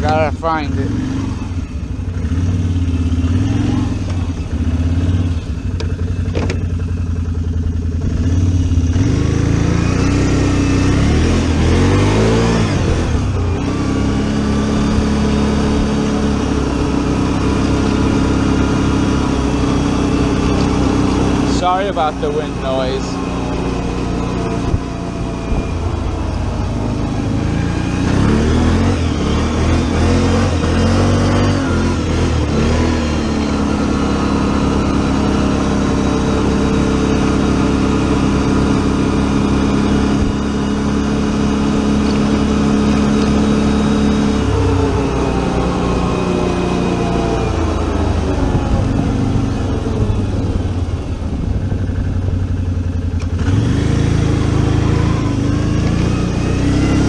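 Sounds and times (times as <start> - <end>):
atv engine: 0.0 - 57.0.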